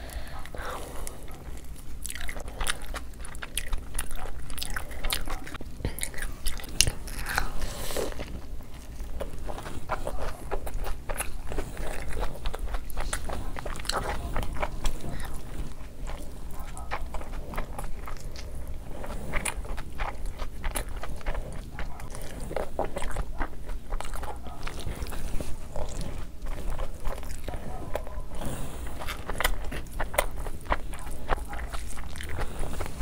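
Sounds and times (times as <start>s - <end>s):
person chewing crunchy fried chicken: 0.0s - 33.0s.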